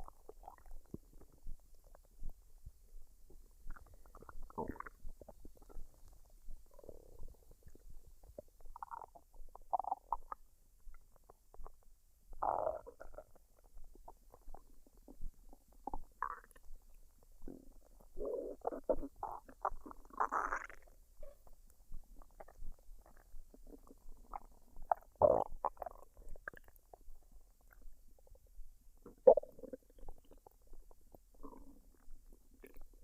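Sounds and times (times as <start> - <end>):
stomach gurgling: 0.0 - 33.0.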